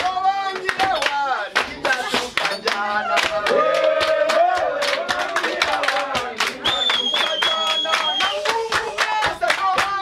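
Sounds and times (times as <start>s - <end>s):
hands clapping in rhythm: 0.0s - 10.0s
group singing: 0.6s - 10.0s.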